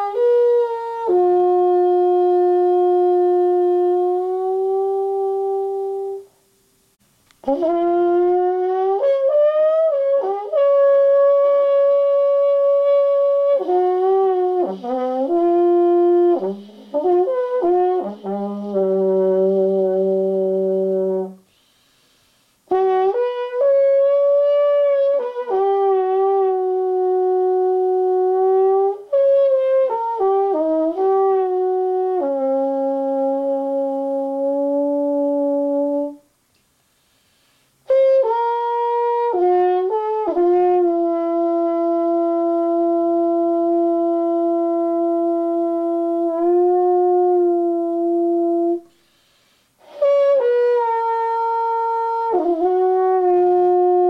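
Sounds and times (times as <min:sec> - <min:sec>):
trombone solo: 0:00.0 - 0:06.4, 0:07.3 - 0:21.5, 0:22.6 - 0:36.4, 0:37.8 - 0:54.0.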